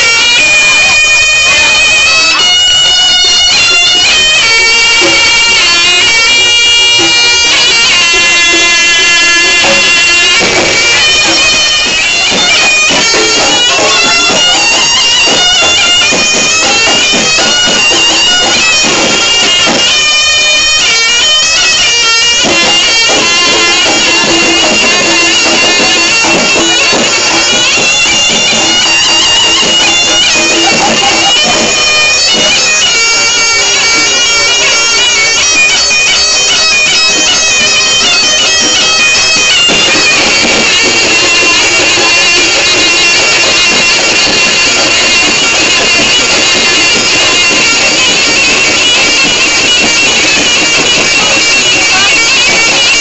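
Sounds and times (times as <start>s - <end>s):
percussion: 0.0s - 53.0s
reedy shawm melody: 0.0s - 53.0s.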